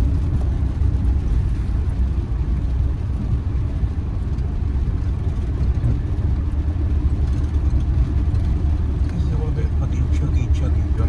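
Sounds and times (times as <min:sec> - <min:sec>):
engine and road drone: 0:00.0 - 0:11.0.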